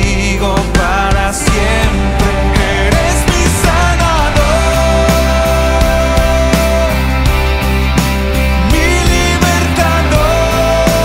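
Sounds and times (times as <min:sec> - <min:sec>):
worship song with band: 0:00.0 - 0:11.0.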